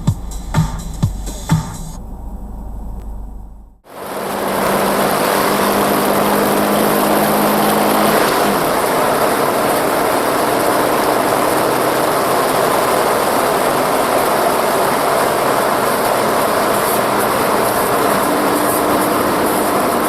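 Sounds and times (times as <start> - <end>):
vehicle engine and tyres: 0.0 - 20.0.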